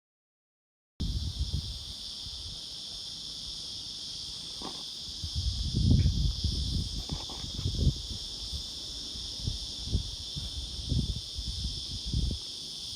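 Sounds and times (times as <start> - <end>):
cicada buzzing: 1.0 - 12.9.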